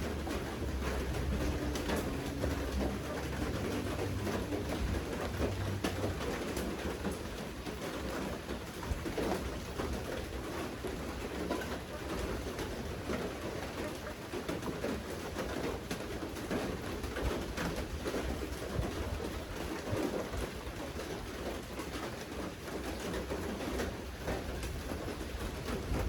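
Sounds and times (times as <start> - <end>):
rain falling: 0.0 - 26.0
raindrops ticking: 0.0 - 26.0.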